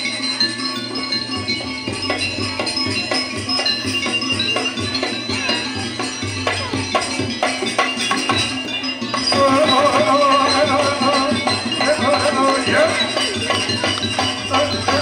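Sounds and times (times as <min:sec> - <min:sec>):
gamelan-style ensemble playing: 0:00.0 - 0:15.0.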